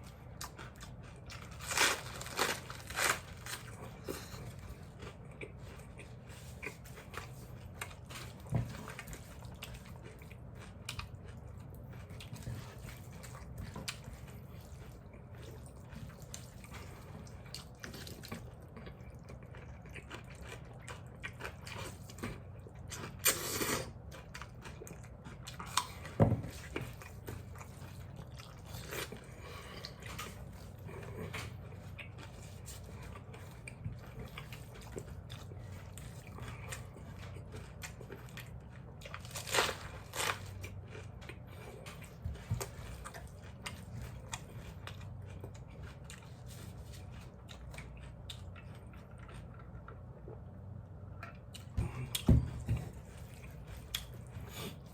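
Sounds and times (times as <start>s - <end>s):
person chewing noodles: 0.0s - 54.9s.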